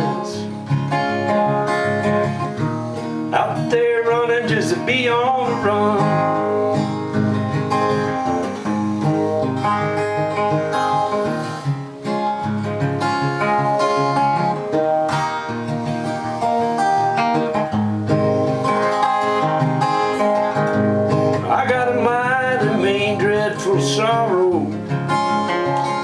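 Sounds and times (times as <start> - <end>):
acoustic guitar strumming and picking: 0.0 - 26.0.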